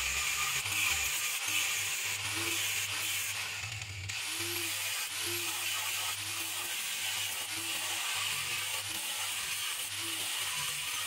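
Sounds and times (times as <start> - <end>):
electric power tool whirring: 0.0 - 11.0.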